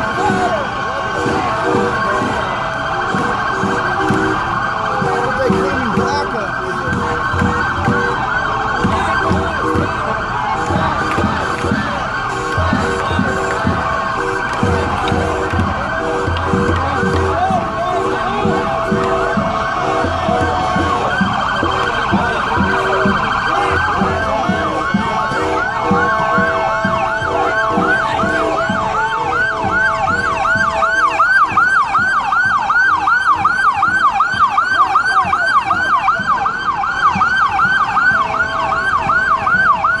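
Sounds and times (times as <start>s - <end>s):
police sirens overlapping: 0.0s - 40.0s.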